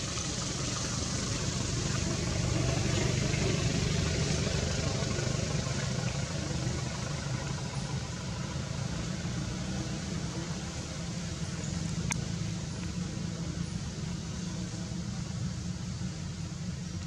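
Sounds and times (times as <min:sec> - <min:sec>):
hiss: 0:00.0 - 0:17.0
low engine drone: 0:00.0 - 0:17.0.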